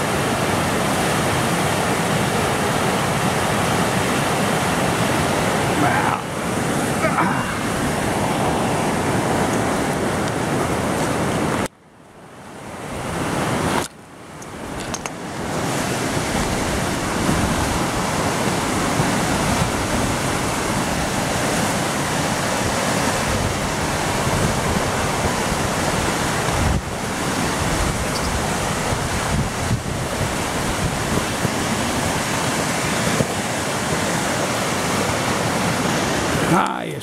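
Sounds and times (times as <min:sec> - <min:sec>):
river rushing over rocks: 0:00.0 - 0:37.0.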